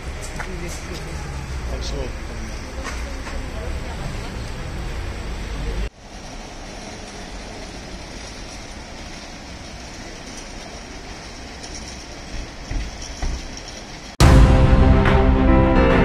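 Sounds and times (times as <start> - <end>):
outdoor background noise: 0.0 - 14.2.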